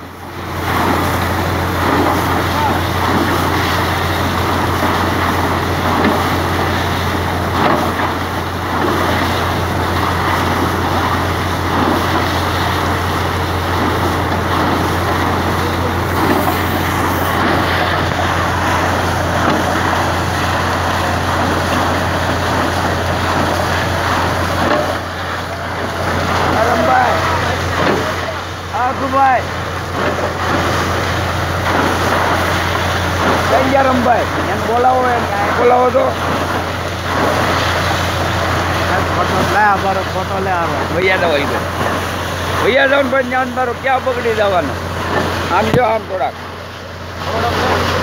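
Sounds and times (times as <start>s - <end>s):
drilling rig engine hum: 0.0s - 48.0s
water rushing from borehole: 0.0s - 48.0s.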